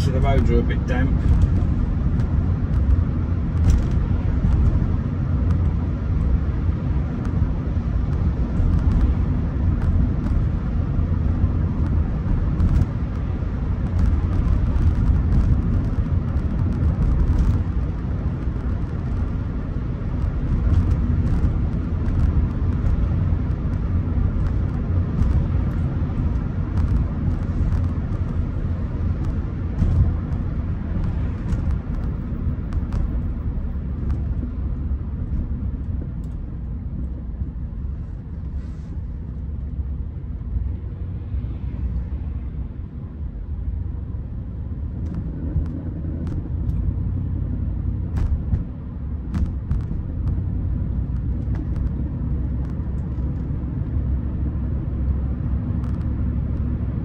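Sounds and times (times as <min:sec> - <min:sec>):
car engine cruising: 0:00.0 - 0:57.0
road noise: 0:00.0 - 0:57.0.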